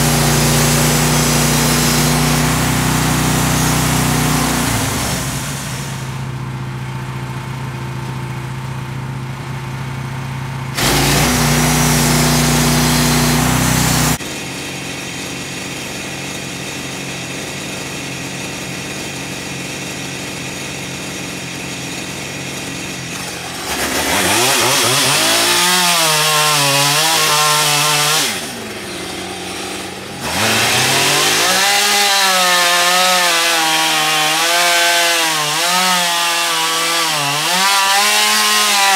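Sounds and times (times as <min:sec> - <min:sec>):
petrol saw cutting wood: 0:00.0 - 0:06.4, 0:10.7 - 0:38.9.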